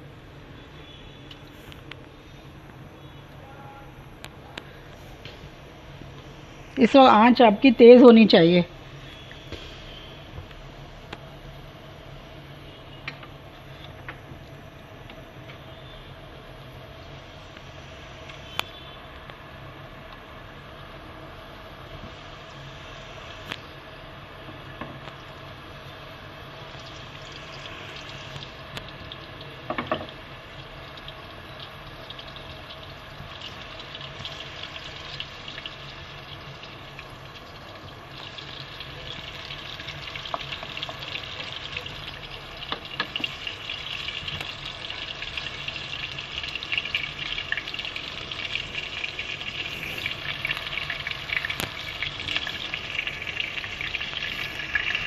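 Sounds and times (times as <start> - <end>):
food sizzling in hot oil: 4.7 - 55.0.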